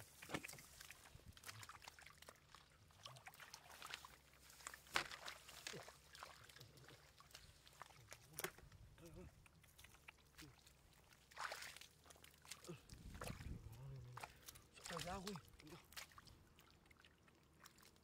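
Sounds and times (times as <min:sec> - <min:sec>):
splashes in shallow water: 0:00.0 - 0:18.0
wet clicks in muddy water: 0:00.0 - 0:18.0.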